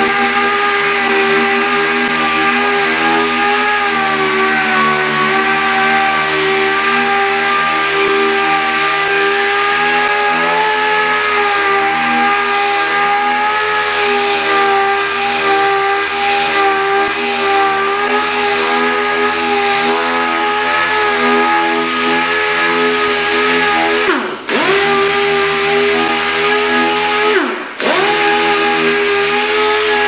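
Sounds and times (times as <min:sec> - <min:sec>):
pneumatic sander whining: 0:00.0 - 0:30.0.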